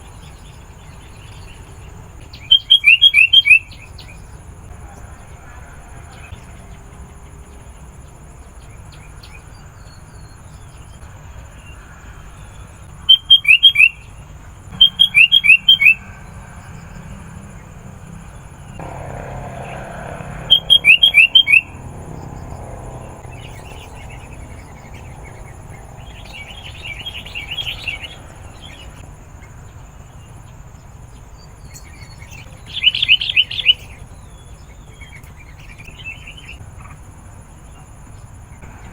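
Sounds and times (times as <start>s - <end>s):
bird chirping: 0.0s - 5.0s, 6.0s - 37.0s.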